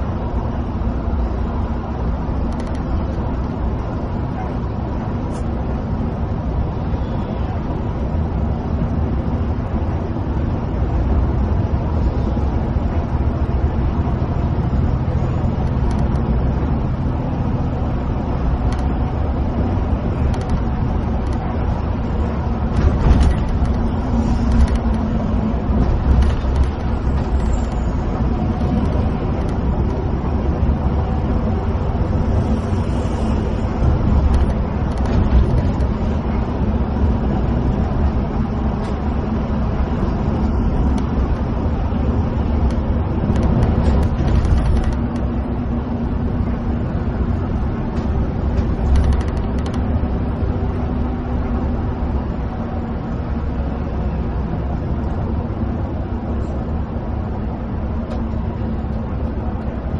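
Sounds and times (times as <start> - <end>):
coach engine hum: 0.0 - 59.9
tyre and road roar: 0.0 - 59.9.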